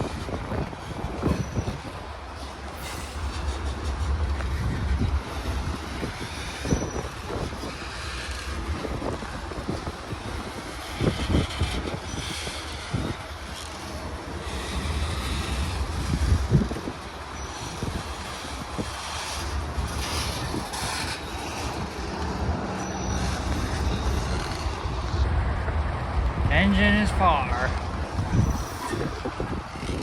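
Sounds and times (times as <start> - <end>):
wheels knocking and clattering: 0.0 - 25.3, 27.8 - 30.0
train rumbling past: 0.0 - 30.0.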